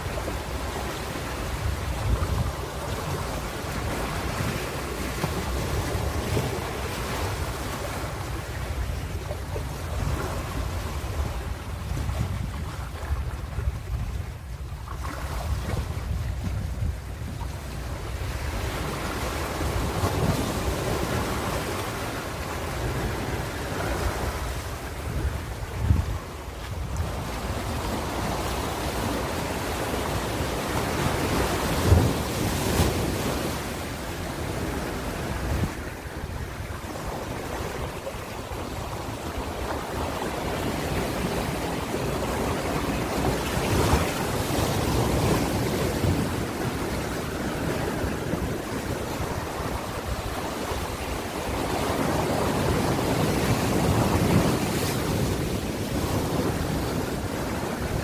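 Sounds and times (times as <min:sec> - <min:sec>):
ocean waves washing onto shore: 0:00.0 - 0:58.0
wind noise on microphone: 0:00.0 - 0:58.0.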